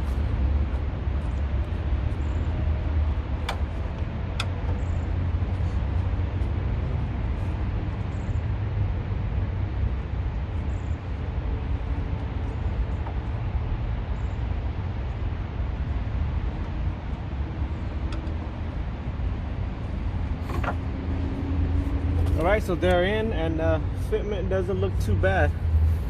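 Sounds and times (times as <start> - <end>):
highway traffic rumble: 0.0 - 26.0.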